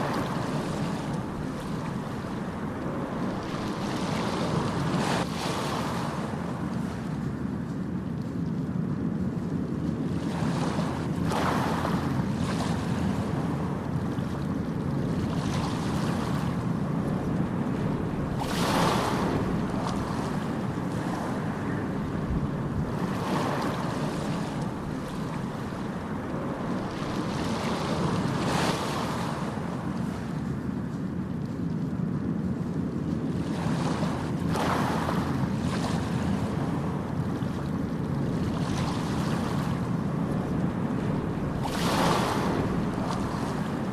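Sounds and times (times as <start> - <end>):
wave washing in: 0.0 - 7.7, 9.4 - 31.6, 32.6 - 43.9
ocean waves rumbling: 0.0 - 43.9.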